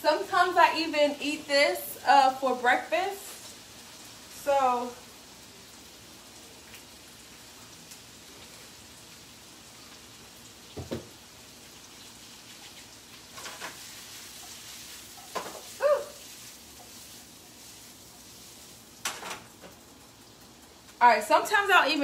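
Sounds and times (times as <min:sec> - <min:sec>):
vegetables sizzling in a frying pan: 0:00.0 - 0:22.0.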